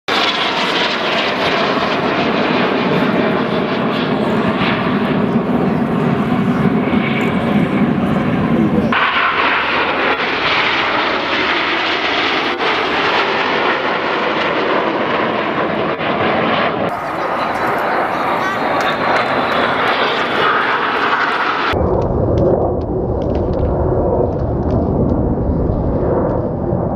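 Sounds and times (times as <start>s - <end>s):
jets flying overhead: 0.1s - 26.9s.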